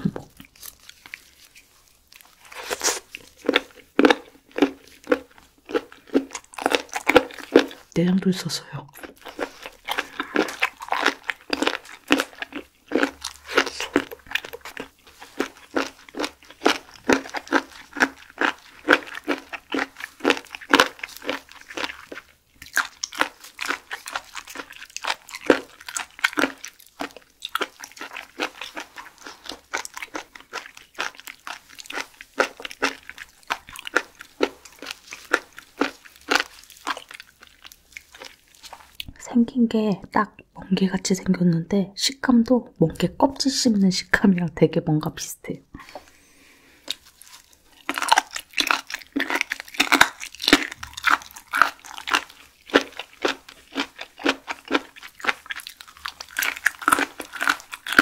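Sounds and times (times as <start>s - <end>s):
wet crunchy chewing: 0.0s - 8.0s, 8.9s - 39.2s, 45.8s - 58.0s.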